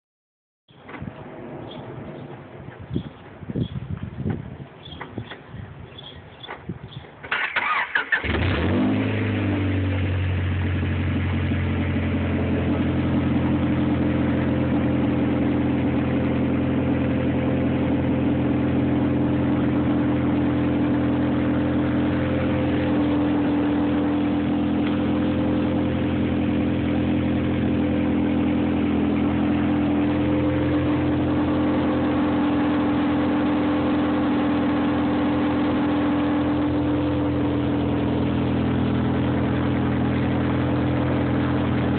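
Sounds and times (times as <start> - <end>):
car engine starting and idling: 7.2 - 41.9.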